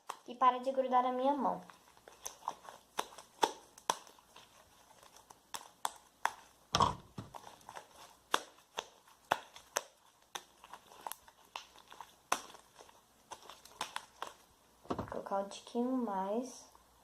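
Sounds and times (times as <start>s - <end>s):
slime kneaded by hand: 0.0s - 16.2s
slime squelch: 0.0s - 17.0s.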